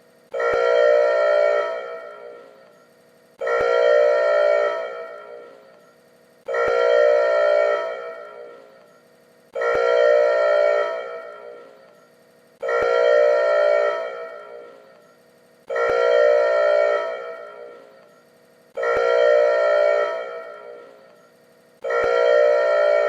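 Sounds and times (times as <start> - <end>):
factory alarm blasts: 0.0 - 23.0.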